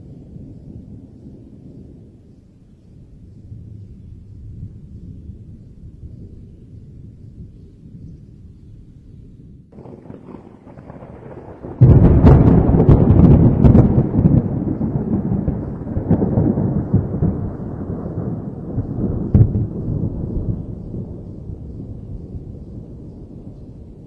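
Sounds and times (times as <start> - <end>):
thunder rumbling and cracking: 0.0 - 8.1, 9.5 - 24.0.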